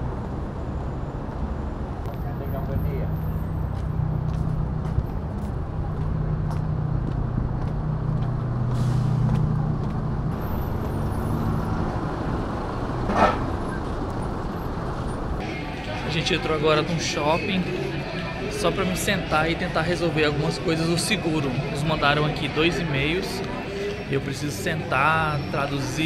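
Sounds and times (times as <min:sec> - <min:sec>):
large vehicle engine humming: 0:00.0 - 0:26.0.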